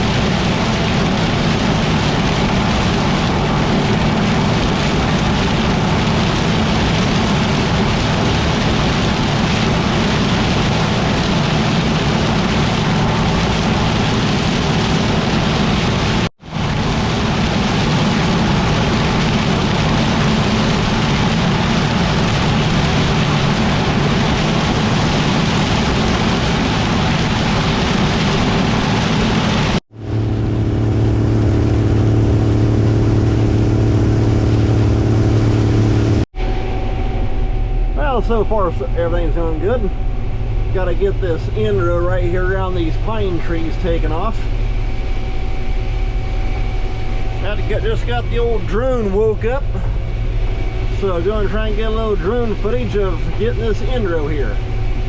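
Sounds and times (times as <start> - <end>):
combine harvester running: 0.0 - 55.0
engine hum with clear tones: 0.0 - 55.0.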